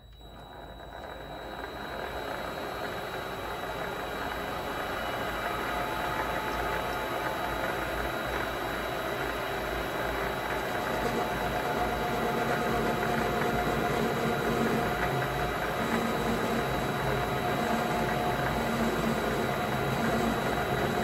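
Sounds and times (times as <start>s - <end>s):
lathe motor whirring: 0.0s - 21.0s.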